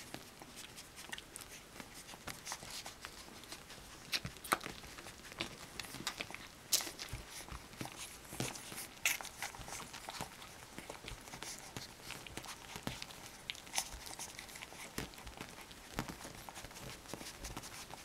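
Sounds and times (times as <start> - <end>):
puppies suckling: 0.0 - 18.0
rustling of fur and blanket: 0.0 - 18.0.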